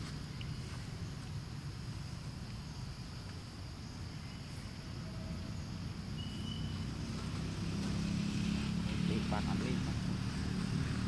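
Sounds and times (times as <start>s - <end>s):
engine hum: 0.0s - 11.0s
faint high insect buzz: 0.0s - 11.0s.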